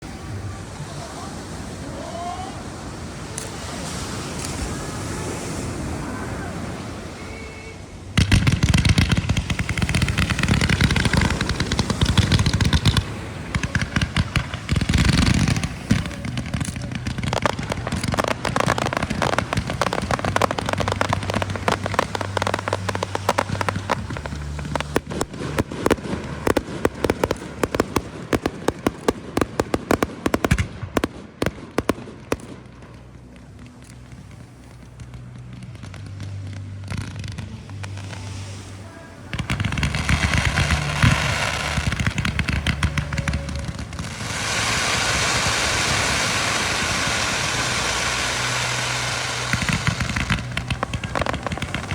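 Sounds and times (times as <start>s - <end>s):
fireworks crackling: 0.0s - 51.9s
steady hiss: 0.0s - 51.9s.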